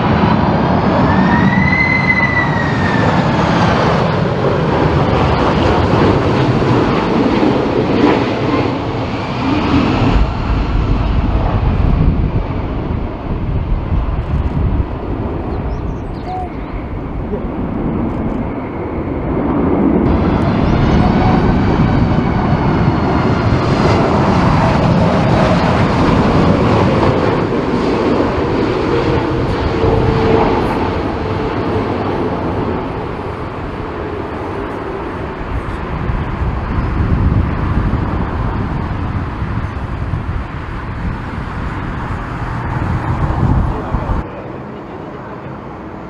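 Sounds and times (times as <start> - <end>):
jet engines roaring and whining: 0.0 - 46.0.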